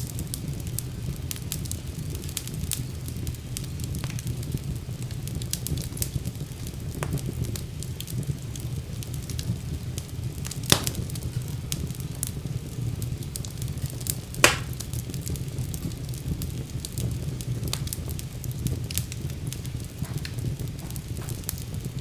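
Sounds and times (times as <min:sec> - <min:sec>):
loud fire pops: 0:00.0 - 0:22.0
low rumble of flame: 0:00.0 - 0:22.0
wood fire crackling: 0:00.0 - 0:22.0.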